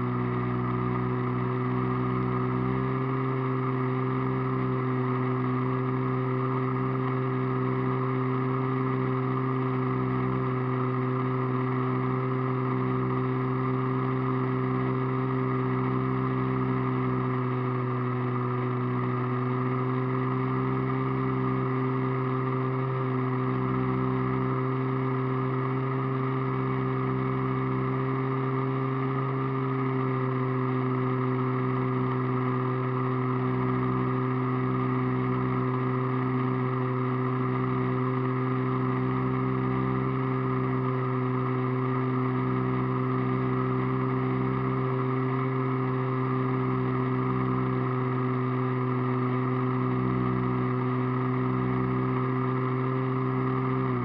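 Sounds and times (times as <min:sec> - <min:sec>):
model airplane motor droning: 0:00.0 - 0:54.0.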